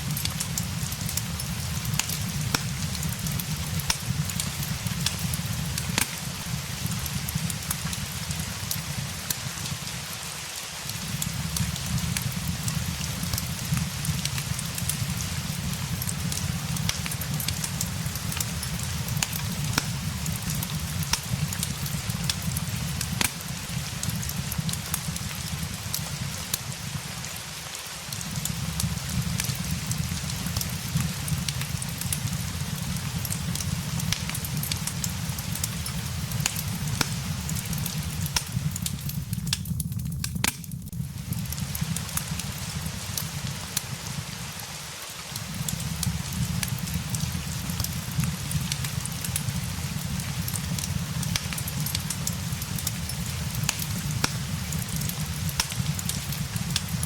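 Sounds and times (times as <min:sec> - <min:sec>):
fireplace crackling: 0:00.0 - 0:57.0
rain hissing: 0:00.0 - 0:57.0.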